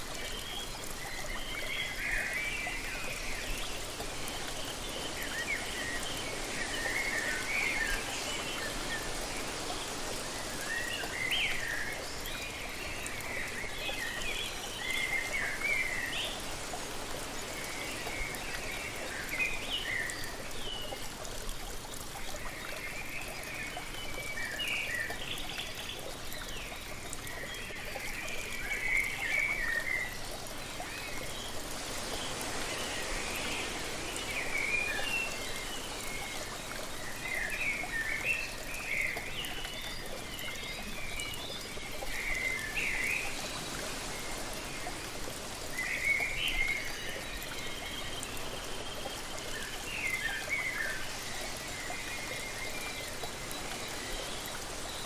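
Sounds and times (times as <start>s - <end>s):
rushing falling water: 0.0s - 55.0s.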